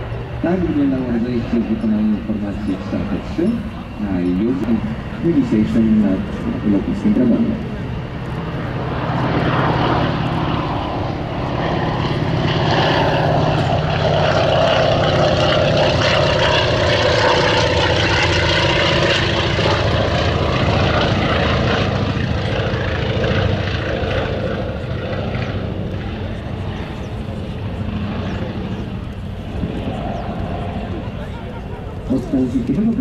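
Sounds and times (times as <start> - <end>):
propeller plane flying past: 0.0 - 33.0.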